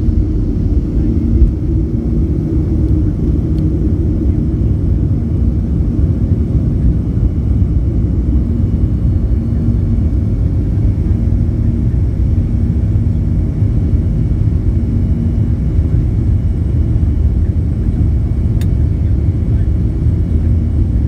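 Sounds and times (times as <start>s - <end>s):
faint steady hum: 0.0s - 21.0s
jet engine low rumble: 0.0s - 21.0s.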